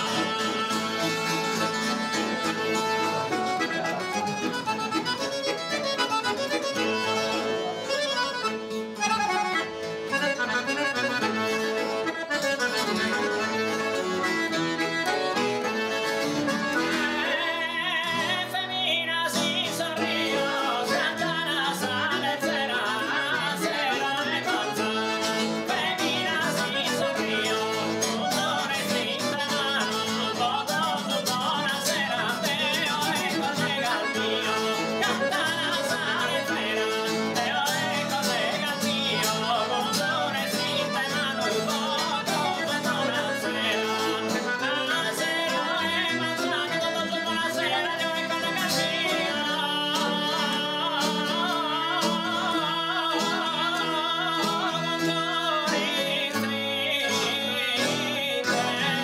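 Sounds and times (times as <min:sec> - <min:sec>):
guitar accompaniment: 0:00.0 - 0:59.0
man singing: 0:00.0 - 0:59.0.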